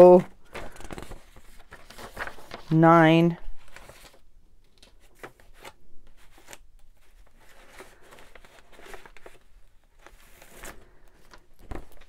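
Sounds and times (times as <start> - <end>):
paper rustling: 0.4 - 12.0.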